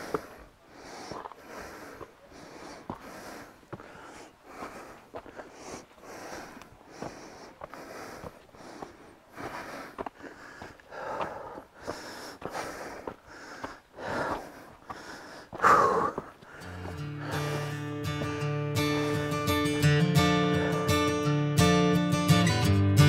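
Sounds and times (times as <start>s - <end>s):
footsteps on leafy dirt trail: 0.0s - 19.5s
person breathing hard: 0.0s - 21.1s.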